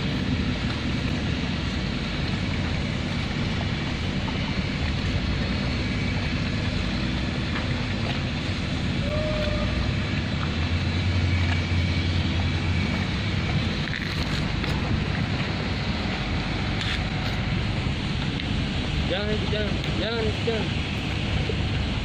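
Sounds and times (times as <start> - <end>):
tugboat machinery droning: 0.0 - 22.0.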